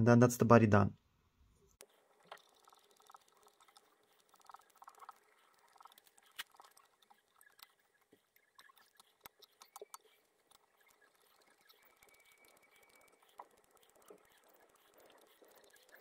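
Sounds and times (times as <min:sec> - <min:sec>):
thread winding ticks and scratching: 0:01.7 - 0:16.0.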